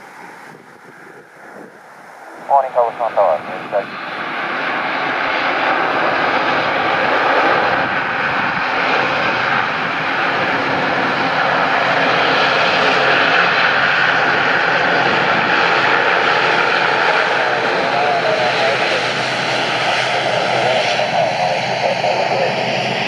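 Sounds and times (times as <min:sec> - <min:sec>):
aircraft engines rushing: 0:00.0 - 0:23.0.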